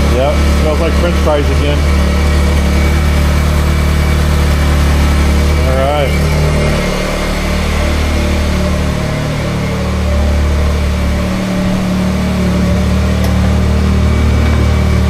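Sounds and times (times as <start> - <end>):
engine idling smoothly: 0.0 - 15.0.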